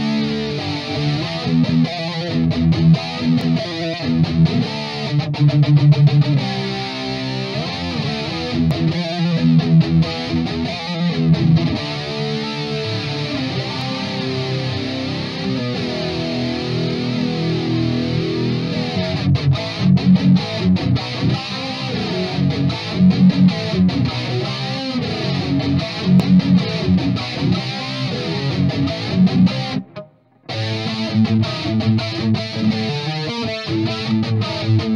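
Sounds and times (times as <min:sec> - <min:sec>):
distorted electric guitar riffing: 0:00.0 - 0:34.9.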